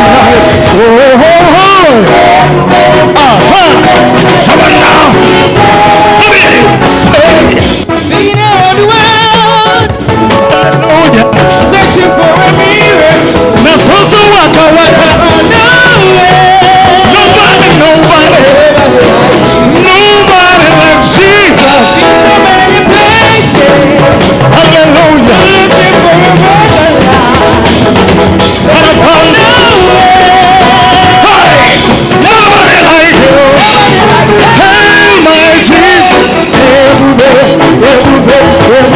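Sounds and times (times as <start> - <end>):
live band playing gospel: 0.0 - 38.9
people singing: 0.0 - 38.9.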